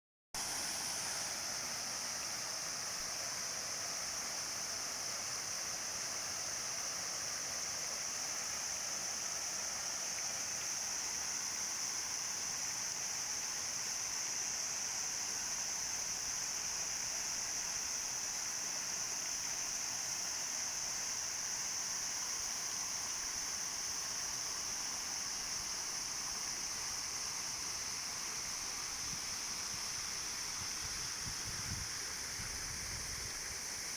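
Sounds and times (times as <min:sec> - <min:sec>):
waterfall splashing into pond: 0:00.4 - 0:33.9.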